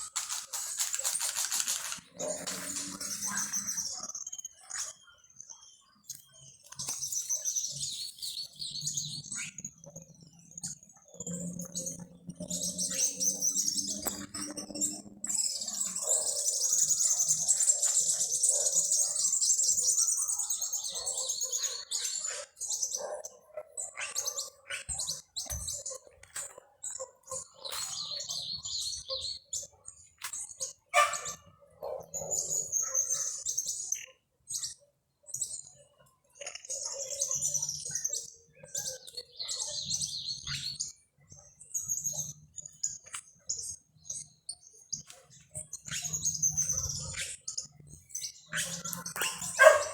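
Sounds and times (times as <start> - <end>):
songbirds chirping and twittering: 0.0 - 49.9.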